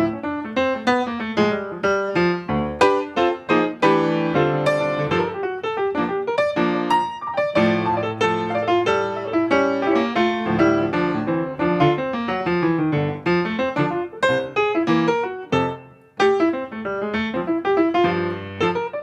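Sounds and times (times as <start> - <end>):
piano playing a hymn: 0.0 - 19.0.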